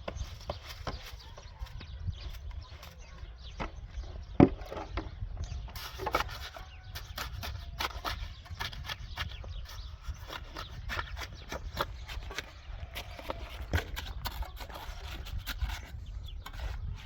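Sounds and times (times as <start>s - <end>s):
knocks clicks and scraping: 0.0s - 17.0s.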